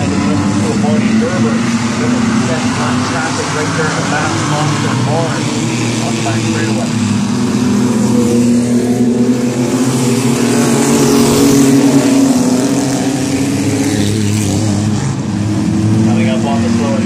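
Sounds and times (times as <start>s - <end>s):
race truck engines at speed: 0.0s - 17.0s.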